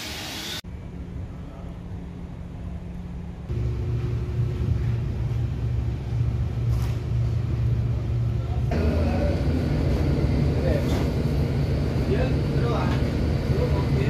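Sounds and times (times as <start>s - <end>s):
machinery rumble with hum: 0.6s - 14.0s.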